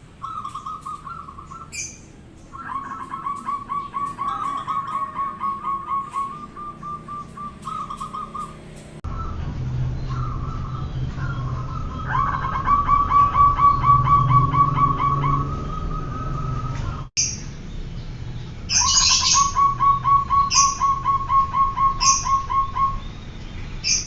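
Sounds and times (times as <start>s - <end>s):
dove cooing: 0.1s - 9.0s, 10.1s - 17.1s, 18.8s - 23.0s
high bird chirps: 0.1s - 24.0s.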